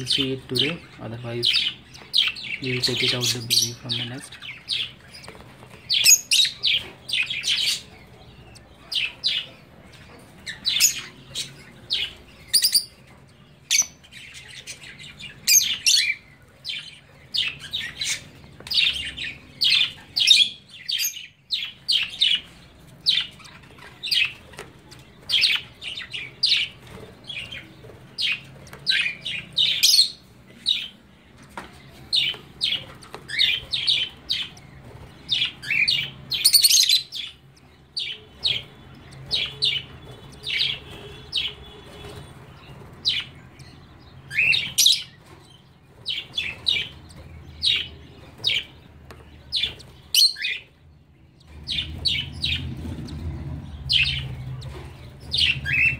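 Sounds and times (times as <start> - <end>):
lovebirds chirping: 0.0 - 55.9.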